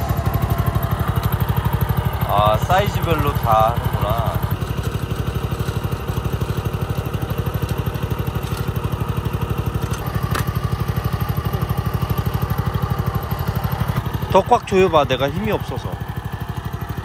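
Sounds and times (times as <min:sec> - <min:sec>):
cultivator engine idling: 0:00.0 - 0:17.0.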